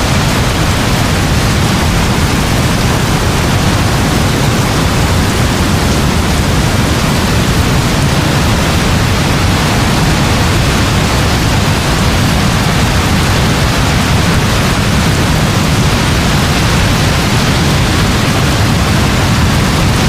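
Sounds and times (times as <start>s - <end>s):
heavy rainfall: 0.0s - 20.0s.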